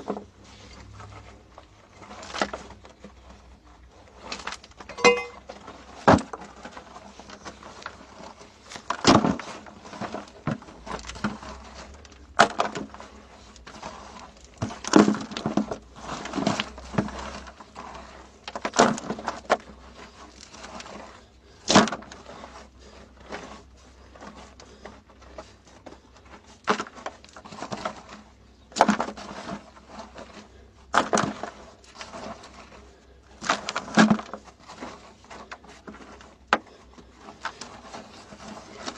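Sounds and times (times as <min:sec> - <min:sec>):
hands scraping gravel: 0:00.0 - 0:38.9.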